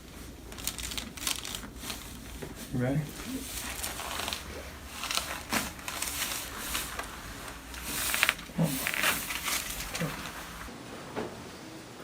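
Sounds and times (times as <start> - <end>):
spinal joint cracking pops: 0.5 - 10.7.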